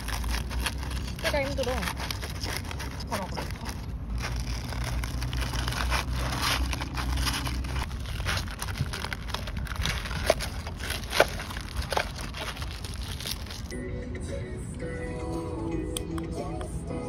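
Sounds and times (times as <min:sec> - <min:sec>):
plastic spoons scraping food: 0:00.0 - 0:13.7.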